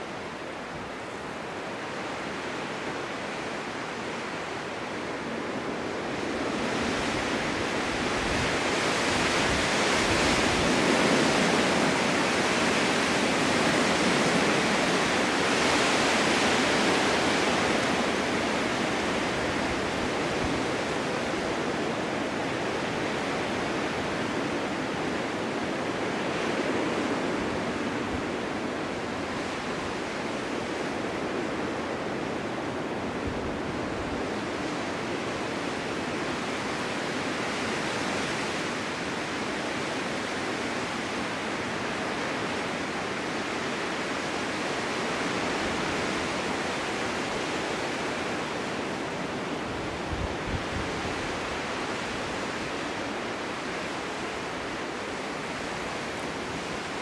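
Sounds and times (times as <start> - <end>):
strong gusting wind: 0.0 - 57.0.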